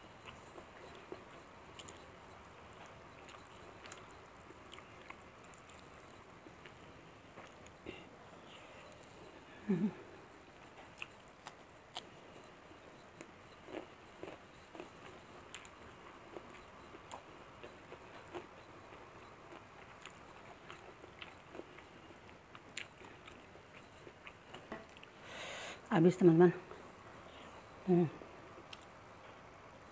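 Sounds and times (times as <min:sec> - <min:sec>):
close-up chewing: 0:00.1 - 0:25.3.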